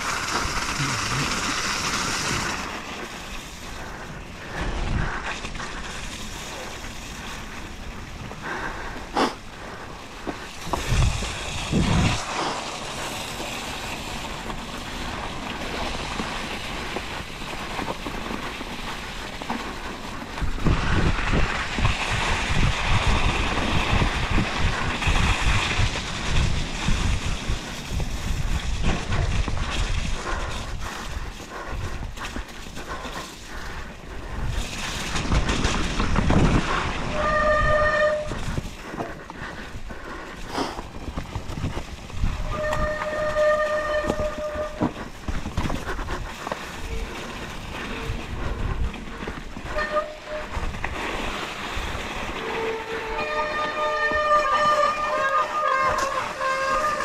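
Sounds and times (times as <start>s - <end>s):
bike tyres rolling: 0.0s - 57.0s
wind buffeting microphone: 2.2s - 57.0s.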